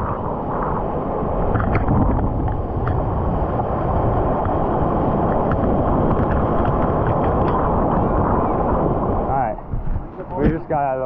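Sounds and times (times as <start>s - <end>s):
seawater sloshing and rushing: 0.0s - 11.0s
surf whitewater foaming: 0.0s - 11.0s
wind on microphone: 0.0s - 11.0s.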